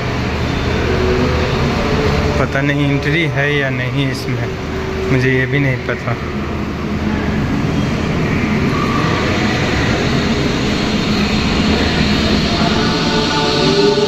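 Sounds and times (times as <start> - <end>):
loud rumbling noise: 0.0 - 14.0.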